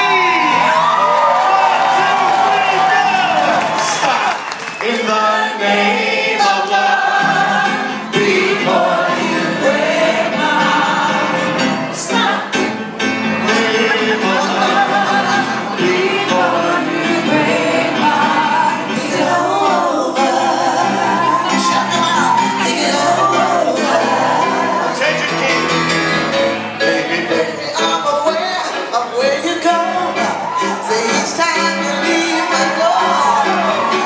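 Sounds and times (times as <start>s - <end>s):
musical accompaniment: 0.0s - 34.0s
voices singing together: 4.7s - 34.0s.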